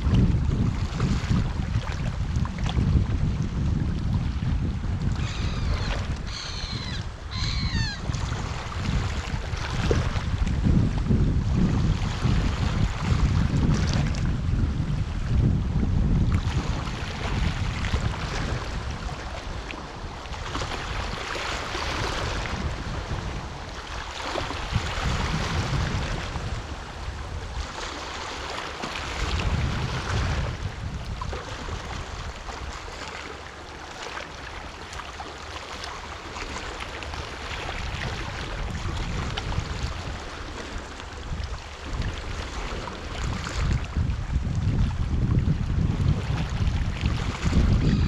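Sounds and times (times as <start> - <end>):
waves washing in: 0.0 - 48.0
wind rumbling on microphone: 0.0 - 48.0.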